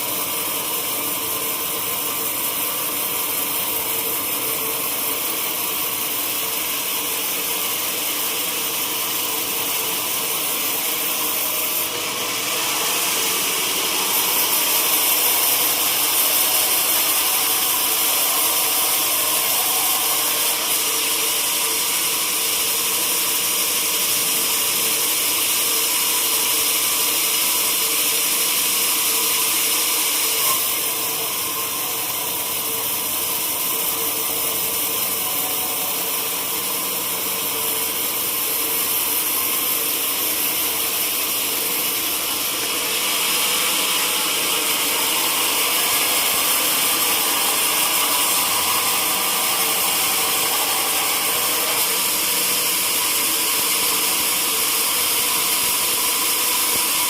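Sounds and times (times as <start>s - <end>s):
sawmill saw cutting wood: 0.0s - 57.0s.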